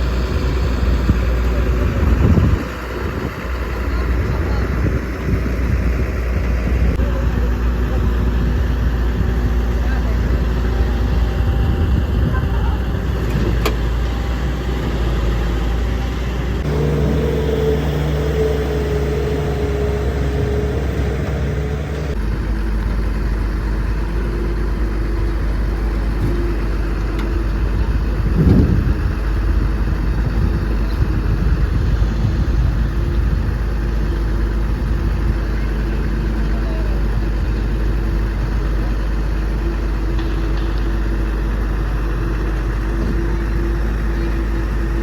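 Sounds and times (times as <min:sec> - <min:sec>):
heavy vehicle engines running: 0:00.0 - 0:45.0.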